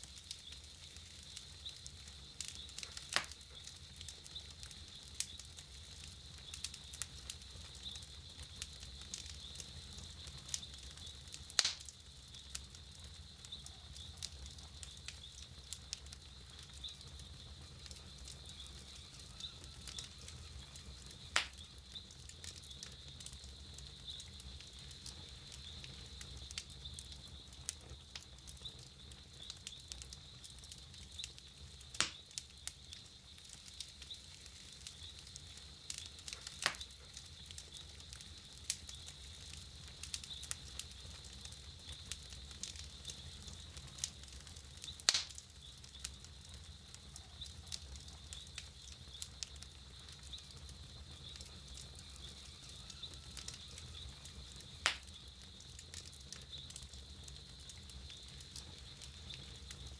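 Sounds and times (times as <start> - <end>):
campfire crackling: 0.0 - 59.9
loud fire pops: 0.0 - 59.9.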